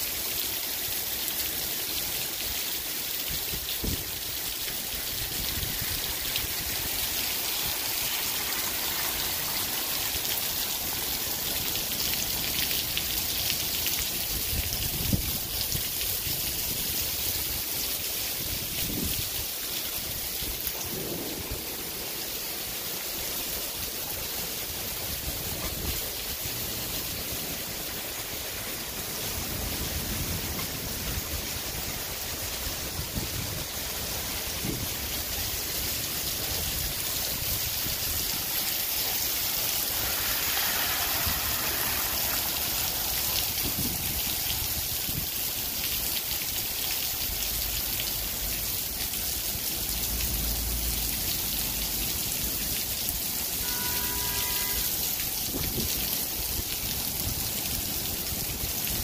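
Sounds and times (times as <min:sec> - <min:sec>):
heavy rain falling: 0:00.0 - 0:59.0
runoff dripping off a roof: 0:00.0 - 0:59.0.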